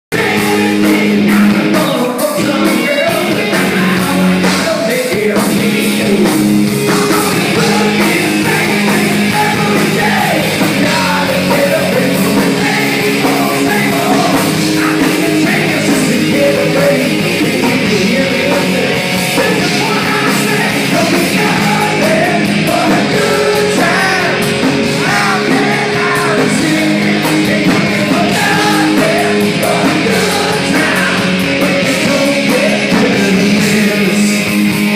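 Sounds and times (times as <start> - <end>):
person singing: 0.1 - 34.6
live rock band playing: 0.1 - 34.9.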